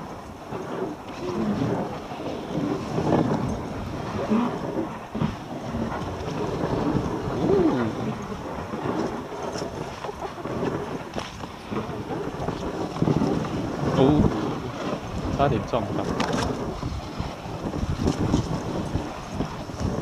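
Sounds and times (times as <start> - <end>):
sled runners scraping over snow: 0.0 - 20.0.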